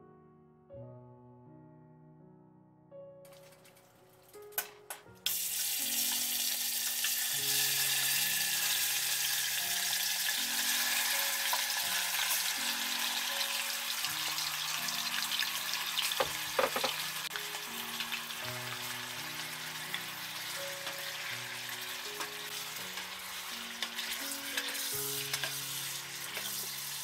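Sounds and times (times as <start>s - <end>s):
meat sizzling in hot oil: 5.2s - 27.0s.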